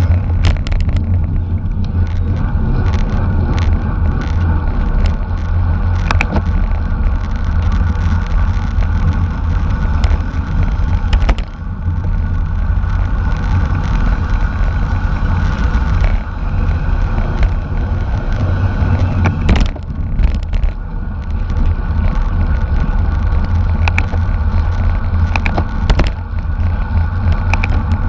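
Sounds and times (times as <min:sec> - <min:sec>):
steady hum: 0:00.0 - 0:28.0
wind rumble on microphone: 0:00.0 - 0:28.0.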